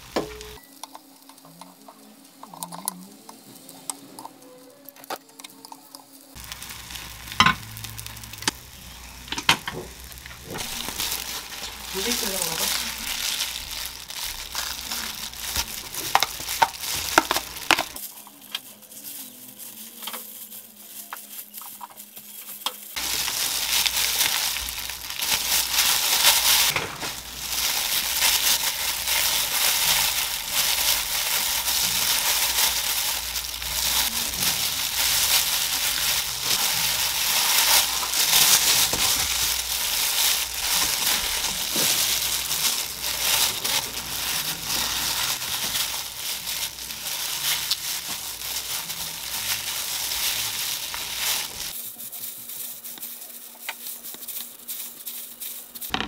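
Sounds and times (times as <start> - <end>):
seaweed sheets crackling: 0.0 - 4.3, 4.9 - 56.0
plastic gloves crinkling: 0.0 - 56.0.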